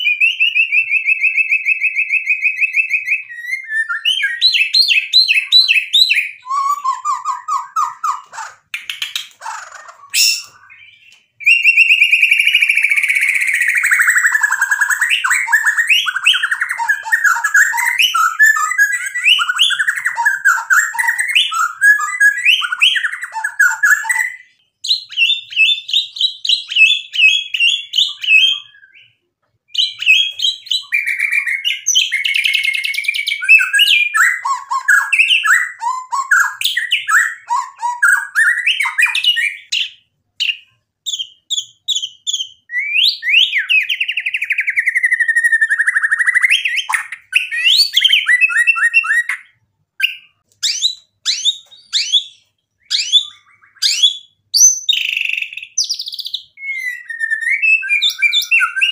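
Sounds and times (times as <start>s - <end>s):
bird singing whistles and trills: 0.0s - 58.9s.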